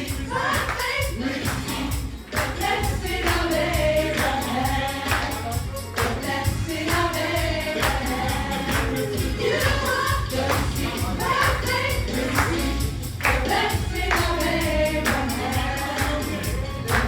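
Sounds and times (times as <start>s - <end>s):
choir singing with band: 0.0s - 17.0s
tambourine jingling: 0.0s - 17.0s.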